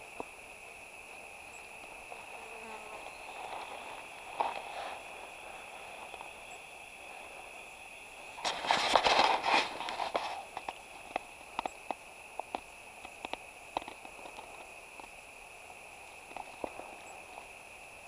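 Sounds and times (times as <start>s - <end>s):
leaves and twigs rustling: 1.8s - 17.7s.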